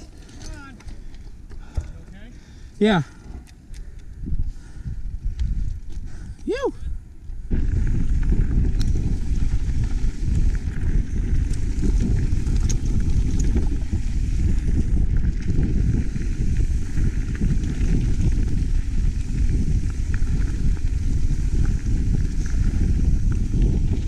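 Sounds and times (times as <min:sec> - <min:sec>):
faint bike ticks: 0:00.0 - 0:24.0
wind buffeting microphone: 0:00.0 - 0:24.0.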